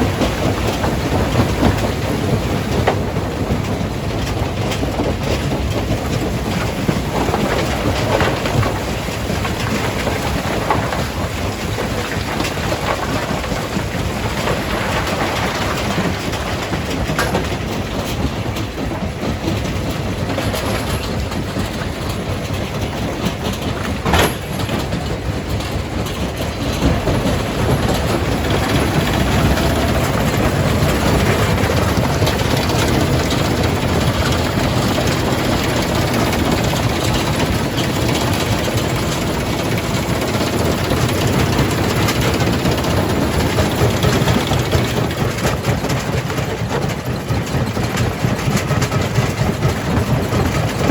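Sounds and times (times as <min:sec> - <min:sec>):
crusher machine rumble: 0:00.0 - 0:50.9.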